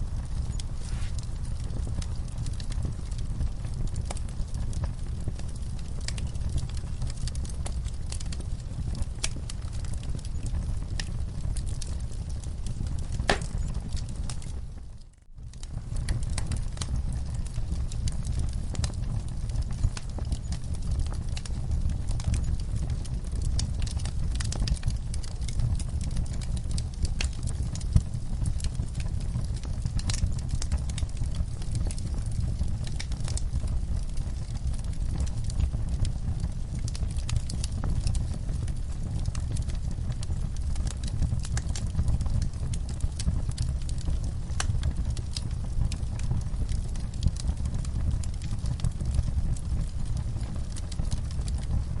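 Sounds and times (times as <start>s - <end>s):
fire crackling and popping: 0.0s - 52.0s.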